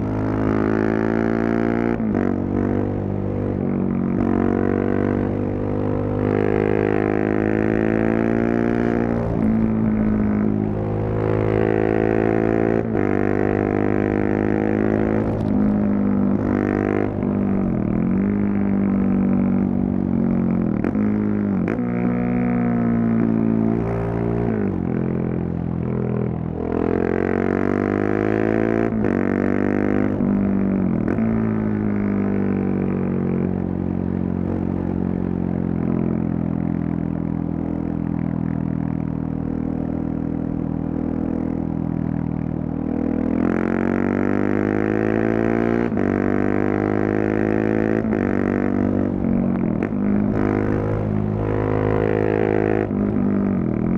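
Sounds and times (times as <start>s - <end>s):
motorcycle engine revving: 0.0s - 37.0s, 37.8s - 53.9s.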